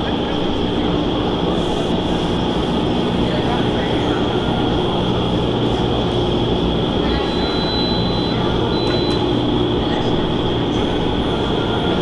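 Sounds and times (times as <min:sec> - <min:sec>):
fans humming: 0:00.0 - 0:12.0.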